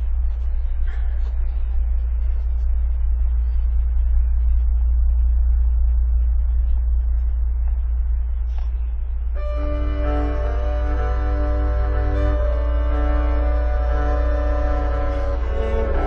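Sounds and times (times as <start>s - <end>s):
bowed double bass notes: 0.0s - 16.0s
double basses low drone: 0.0s - 16.0s.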